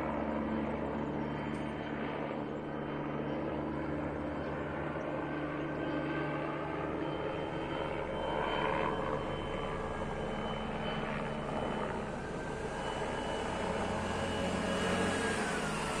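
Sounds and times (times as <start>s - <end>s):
distant helicopter flying over: 0.0s - 16.0s.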